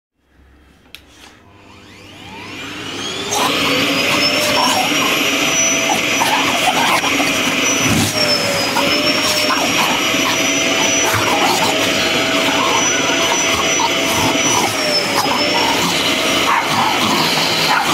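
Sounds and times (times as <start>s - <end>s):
vacuum cleaner motor whine: 1.0s - 17.9s.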